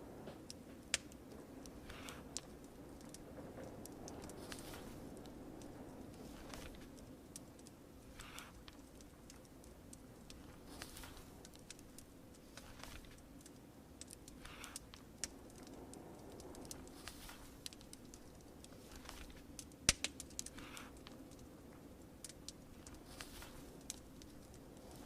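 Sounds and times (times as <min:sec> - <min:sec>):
fire crackling pops and snaps: 0:00.0 - 0:25.0
soft hiss: 0:00.0 - 0:25.0
soft rustles: 0:00.0 - 0:25.0.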